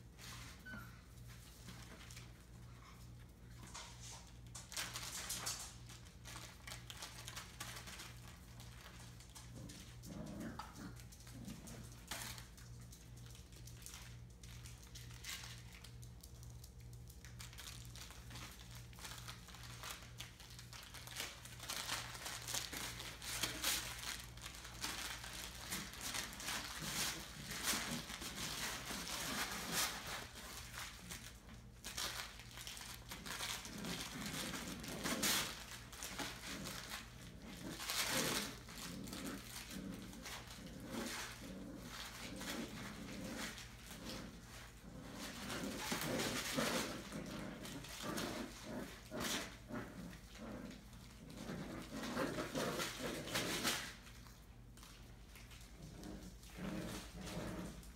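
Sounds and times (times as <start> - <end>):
faint electrical hum: 0.0 - 57.9
puppies rustling in crinkly bedding: 0.0 - 57.9.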